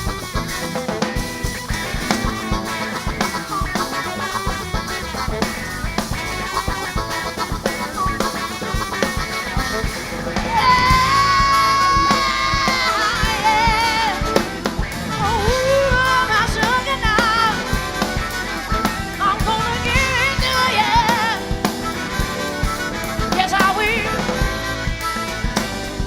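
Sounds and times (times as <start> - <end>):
drum kit: 0.0 - 26.0
live band playing: 0.0 - 26.0
ornamented lead melody: 0.0 - 26.0.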